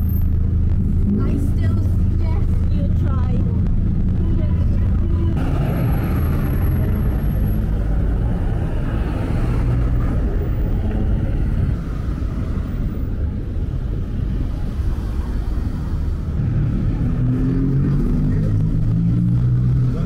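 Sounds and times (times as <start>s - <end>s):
car and motorbike engines: 0.0s - 20.0s.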